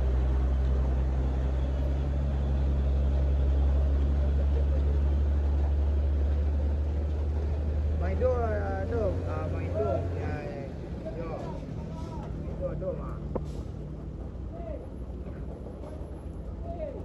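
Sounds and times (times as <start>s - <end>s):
truck diesel engine running: 0.0s - 16.6s.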